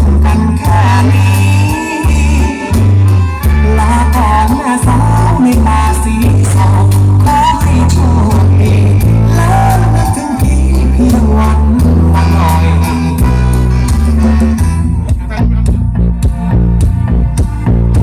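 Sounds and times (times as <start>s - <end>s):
heavy bass line: 0.0s - 18.0s.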